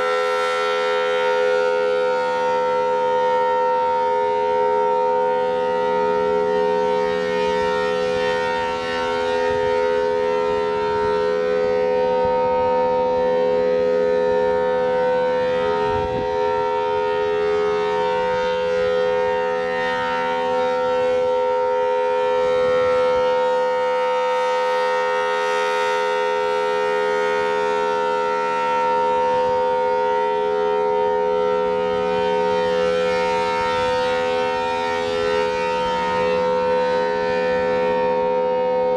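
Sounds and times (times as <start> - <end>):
siren steady tone: 0.0 - 38.9.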